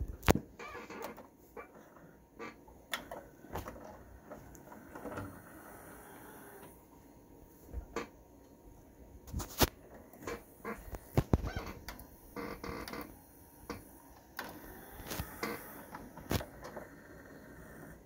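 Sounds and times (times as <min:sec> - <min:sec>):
faint motor whir: 0:00.0 - 0:18.0.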